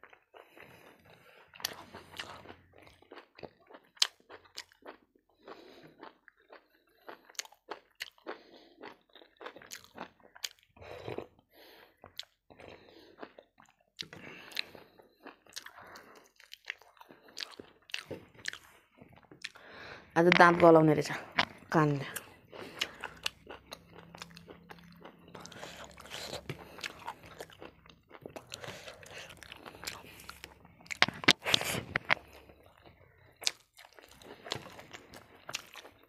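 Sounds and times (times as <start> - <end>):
chewing and crunching: 0.0 - 36.0.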